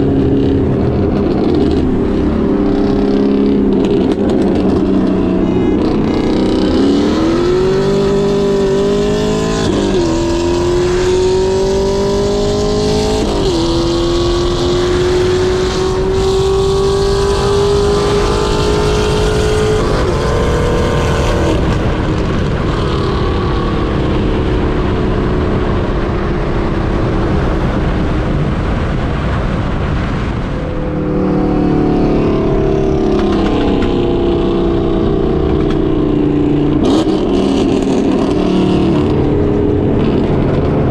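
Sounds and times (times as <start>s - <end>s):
car engine accelerating: 0.0s - 40.9s
road noise while cruising: 0.0s - 40.9s.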